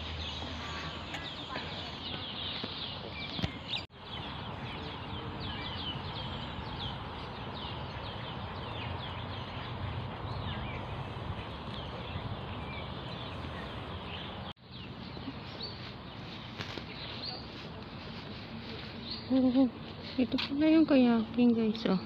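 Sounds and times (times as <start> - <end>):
birds chirping: 0.0 - 22.0
outdoor background noise: 0.0 - 22.0.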